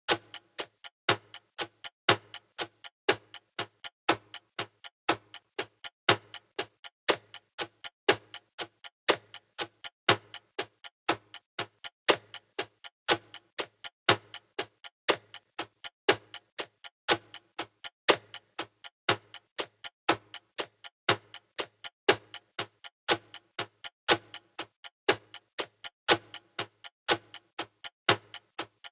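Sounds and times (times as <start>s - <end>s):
clock ticking: 0.1s - 28.9s.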